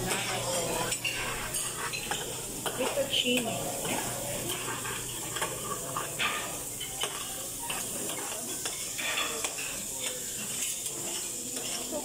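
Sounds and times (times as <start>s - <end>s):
food sizzling in a pan: 0.0s - 12.0s
utensils and dishes clinking: 0.0s - 12.0s.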